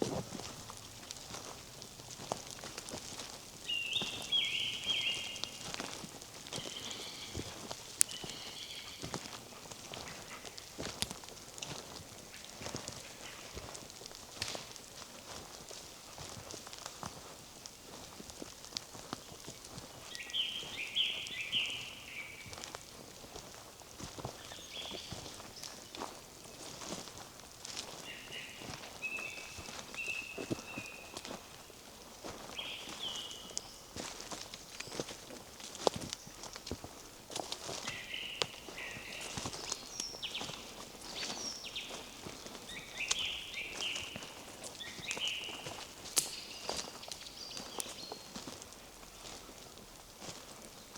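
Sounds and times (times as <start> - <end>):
footsteps on forest path: 0.0 - 50.9
songbird singing: 2.2 - 17.2, 18.1 - 49.9.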